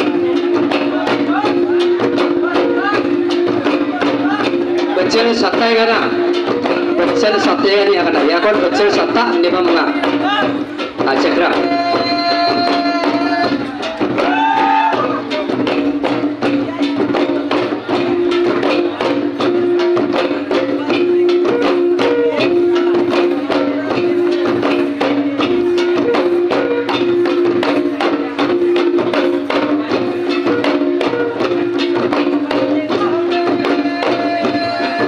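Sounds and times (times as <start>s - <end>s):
drums beating fast rhythm: 0.0s - 35.0s.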